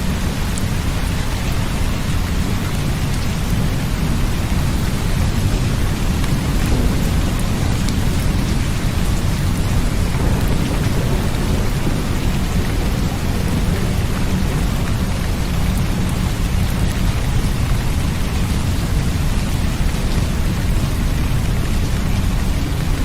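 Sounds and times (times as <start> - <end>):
low thunder rumble: 0.0 - 23.0
steady rain: 0.0 - 23.0.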